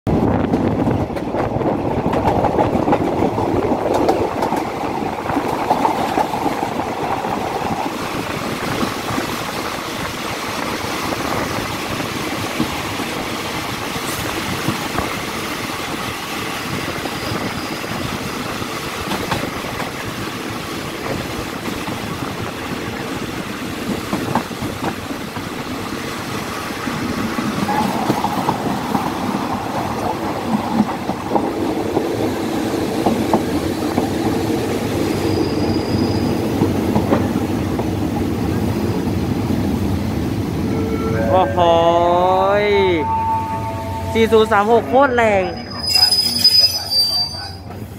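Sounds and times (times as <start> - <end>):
train wheels rolling on rails: 0.1 - 41.2.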